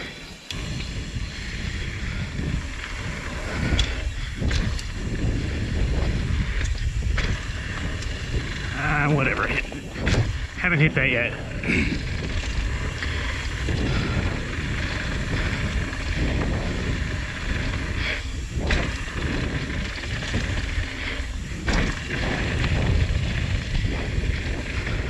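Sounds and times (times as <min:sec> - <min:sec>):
bike chain and frame rattling: 0:00.0 - 0:25.0
wind rushing over microphone: 0:00.0 - 0:25.0.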